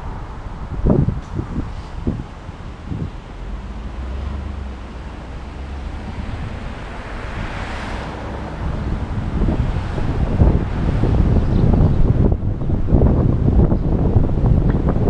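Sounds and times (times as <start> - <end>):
engine and tyre rumble: 0.0 - 15.0
wind buffeting microphone: 0.0 - 15.0.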